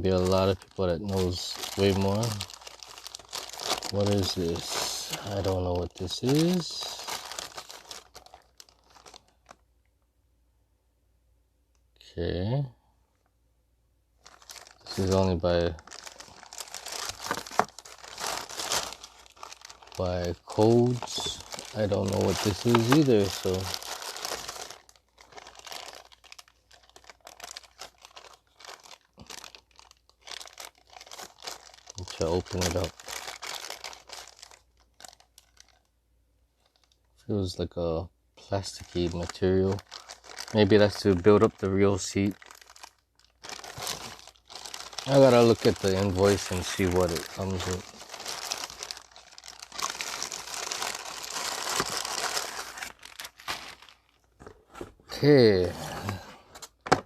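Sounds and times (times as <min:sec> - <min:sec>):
packaging crinkling: 0:00.0 - 0:09.6, 0:14.2 - 0:35.9, 0:36.6 - 0:37.0, 0:38.6 - 0:54.9.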